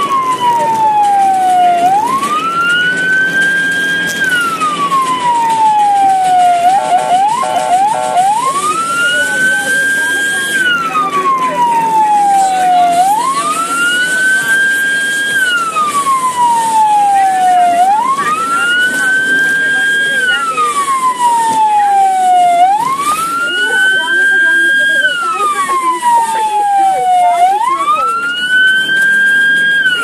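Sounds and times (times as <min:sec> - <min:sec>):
ambulance siren wailing: 0:00.0 - 0:30.0.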